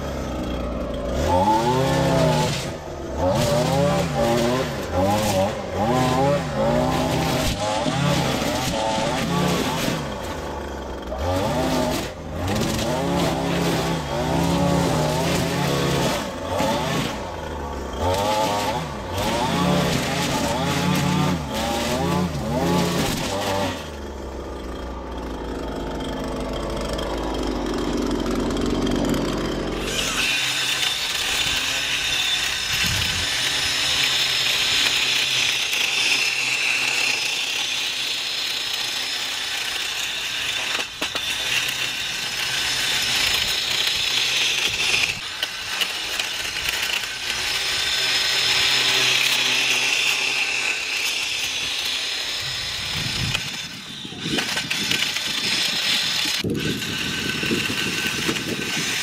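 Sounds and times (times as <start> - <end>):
lawn equipment engine revving: 0.0 - 59.0.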